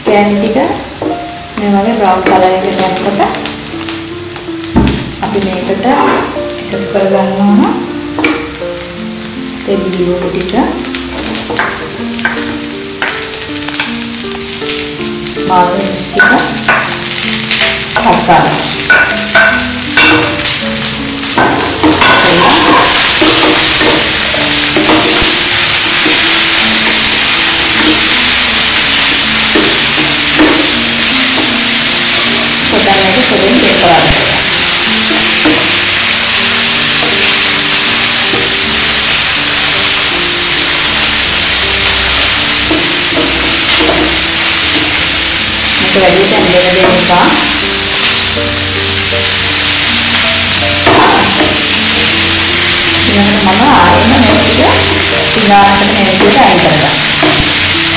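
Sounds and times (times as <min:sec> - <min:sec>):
background music of held notes: 0:00.0 - 0:57.9
vegetables sizzling in hot oil: 0:00.0 - 0:57.9.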